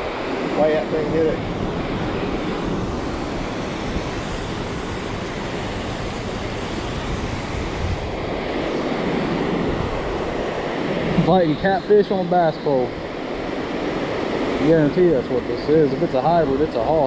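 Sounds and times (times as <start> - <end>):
fast river current rushing: 0.0 - 17.0
wind buffeting microphone: 0.0 - 17.0.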